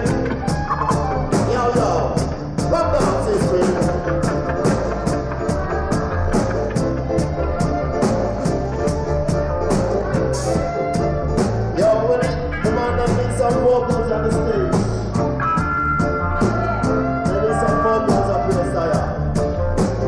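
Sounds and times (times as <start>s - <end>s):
reggae band playing: 0.0s - 20.0s.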